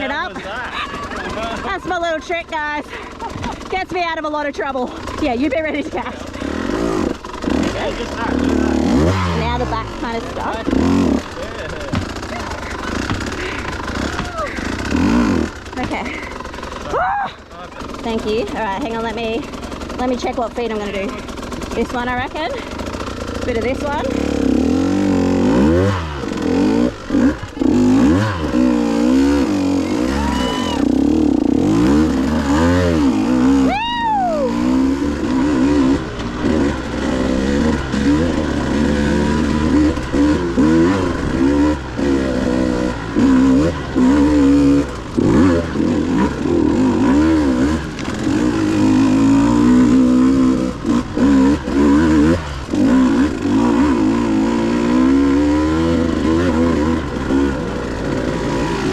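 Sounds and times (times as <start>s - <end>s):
two-stroke motorbike engine revving: 0.0s - 58.9s.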